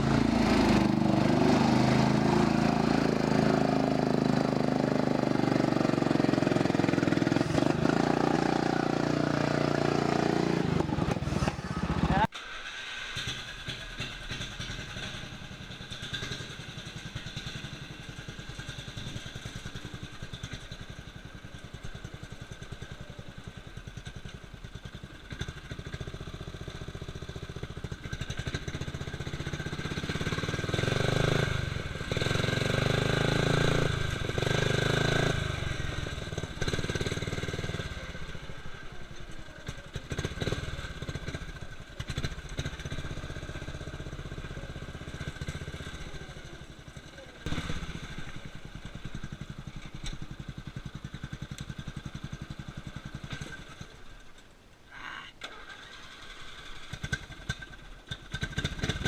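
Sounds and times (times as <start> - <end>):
lawn tractor engine running: 0.0 - 54.5, 55.4 - 59.0.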